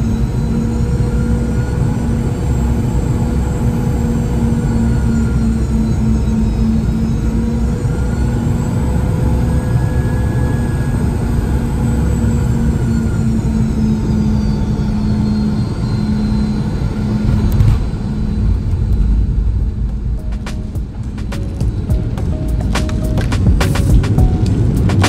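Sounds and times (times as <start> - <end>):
jet engine rumble and whine: 0.0 - 25.0.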